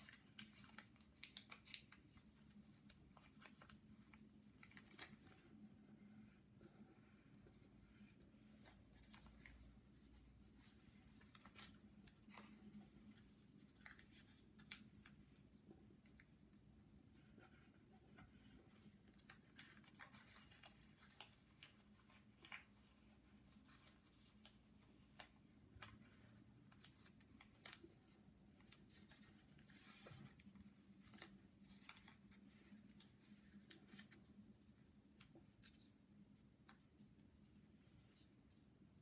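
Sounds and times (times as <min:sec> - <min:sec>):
paper being folded and creased: 0:00.0 - 0:38.7.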